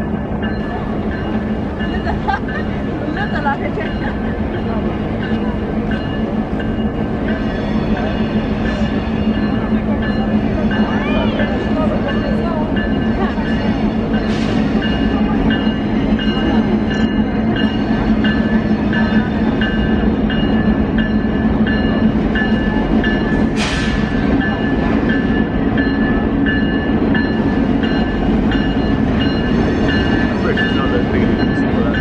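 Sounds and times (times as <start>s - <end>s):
train rumbling past: 0.0s - 32.0s
level-crossing bell ringing: 0.4s - 23.5s, 24.4s - 32.0s.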